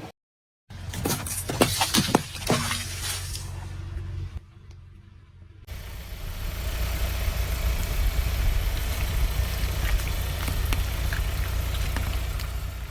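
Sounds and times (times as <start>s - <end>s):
car engine rumbling: 0.7s - 12.9s.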